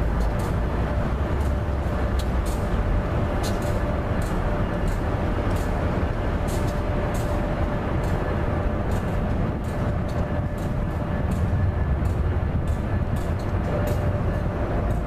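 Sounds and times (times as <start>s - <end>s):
freight train rumbling on bridge: 0.0s - 15.0s
sharp clicks of train wheels: 0.0s - 15.0s.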